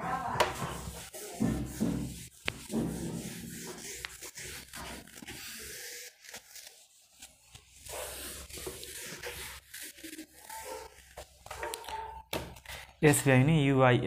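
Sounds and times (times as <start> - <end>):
handling noise rubbing and scraping: 0.0 - 13.5.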